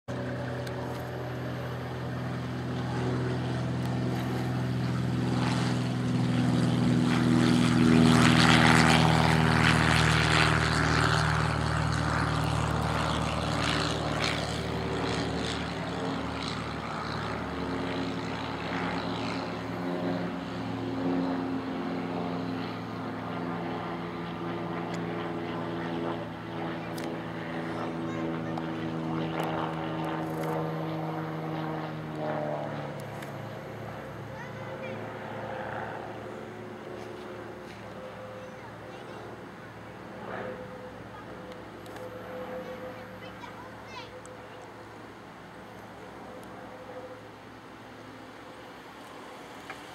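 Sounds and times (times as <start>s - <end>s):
propeller plane engine droning: 0.1s - 49.9s.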